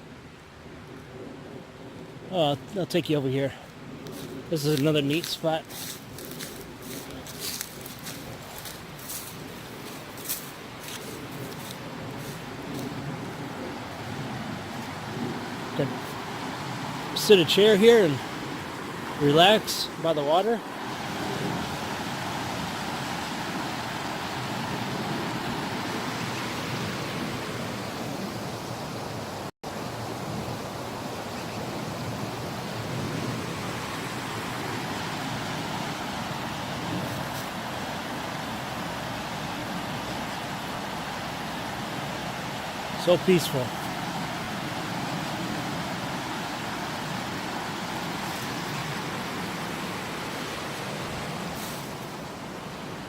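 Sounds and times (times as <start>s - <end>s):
creek water running: 2.3s - 53.0s.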